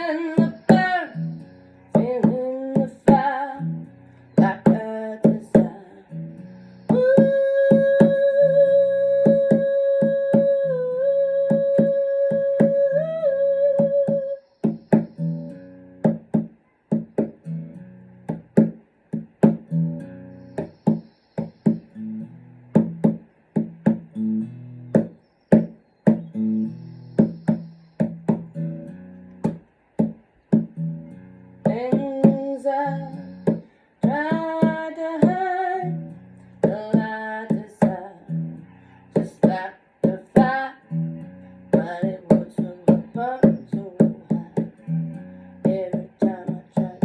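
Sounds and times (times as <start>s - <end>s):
guitar picking pattern: 0.0s - 47.0s.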